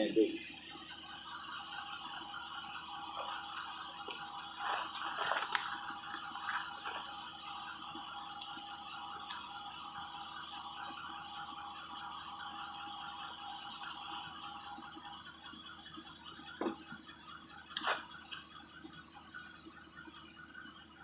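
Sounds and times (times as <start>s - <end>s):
constant high whine: 0.0s - 21.0s.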